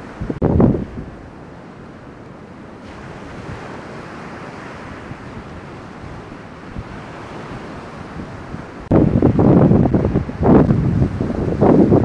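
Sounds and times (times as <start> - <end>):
wind on microphone: 0.0 - 1.5, 2.8 - 12.0
ocean surf breaking: 0.0 - 12.0.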